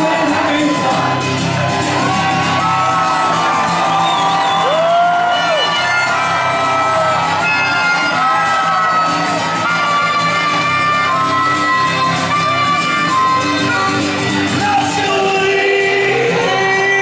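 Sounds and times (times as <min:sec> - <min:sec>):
crowd shouting and whooping: 0:00.0 - 0:17.0
harmonica solo: 0:00.0 - 0:17.0
strummed acoustic guitar: 0:00.0 - 0:17.0.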